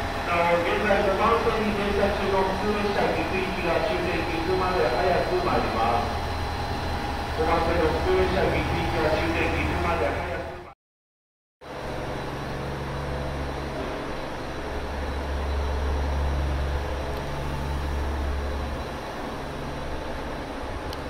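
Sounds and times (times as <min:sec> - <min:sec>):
low mechanical hum and rumble: 0:00.0 - 0:10.8, 0:11.6 - 0:21.0.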